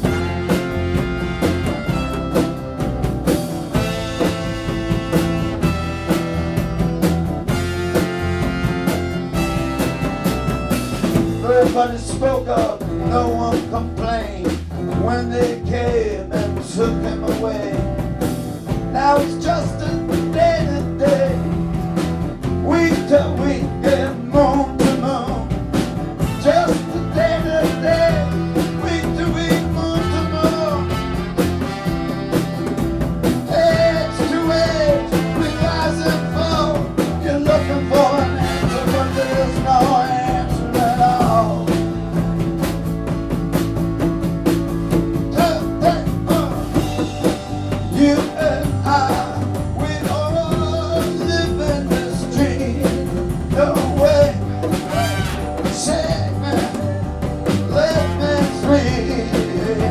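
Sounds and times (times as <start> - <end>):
horn lead melody: 0.0 - 14.3, 22.7 - 59.9
bass guitar: 0.0 - 59.9
drums: 0.0 - 59.9
electric guitar: 0.0 - 59.9.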